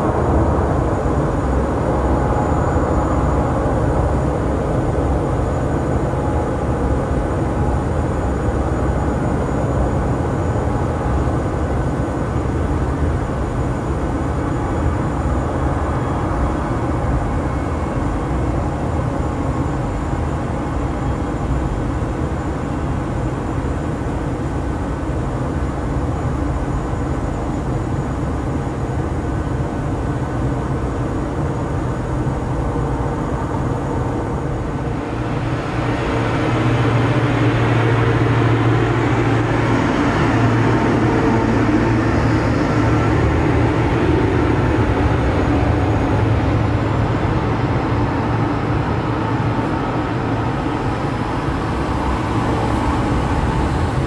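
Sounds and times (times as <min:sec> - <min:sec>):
faint steady whine: 0:00.0 - 0:54.0
jet aircraft low rumble: 0:00.0 - 0:54.0.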